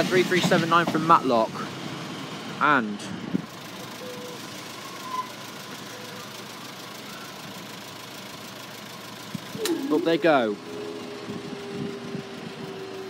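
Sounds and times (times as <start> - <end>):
engines idling: 0.0 - 13.0.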